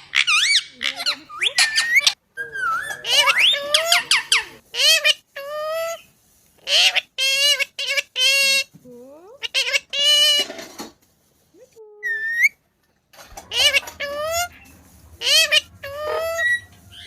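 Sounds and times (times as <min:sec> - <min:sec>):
parrot squawking and chattering: 0:00.0 - 0:10.9, 0:11.6 - 0:12.6, 0:13.2 - 0:17.0.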